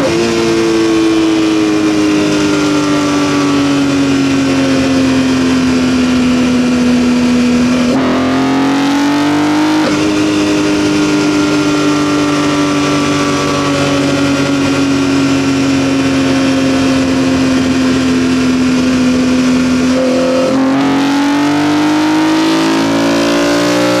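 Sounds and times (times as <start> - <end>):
car engine under load: 0.0 - 24.0.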